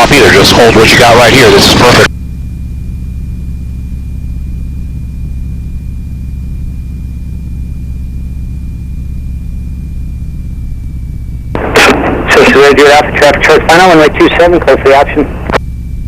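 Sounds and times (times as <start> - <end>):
radial aircraft engine droning: 0.0 - 16.0.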